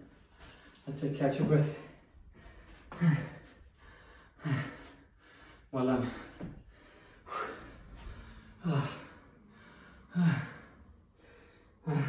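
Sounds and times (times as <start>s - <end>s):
man breathing heavily: 1.5s - 12.0s.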